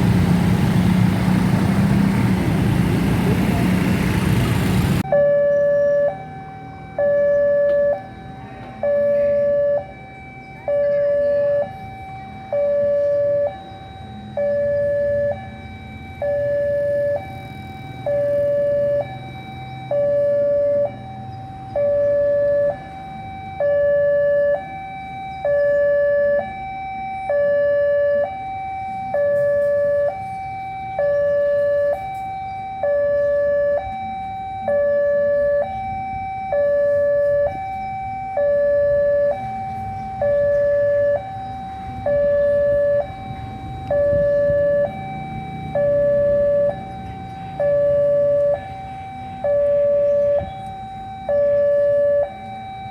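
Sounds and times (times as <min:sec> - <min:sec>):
low road traffic rumble: 0:00.0 - 0:52.9
two-tone level crossing alarm: 0:05.0 - 0:52.9.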